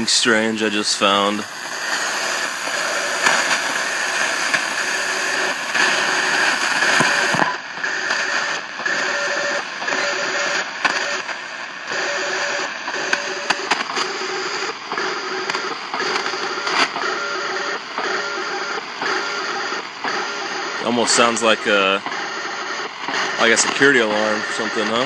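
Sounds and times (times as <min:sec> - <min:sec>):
choppy digital radio signal: 0:00.0 - 0:25.0
radio static hiss: 0:00.0 - 0:25.0.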